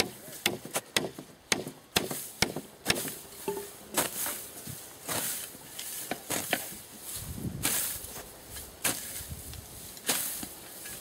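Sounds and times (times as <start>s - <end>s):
hand tool knocking ground and wood: 0.0s - 7.0s, 7.6s - 11.0s
dry grass and twigs rustling: 0.0s - 11.0s.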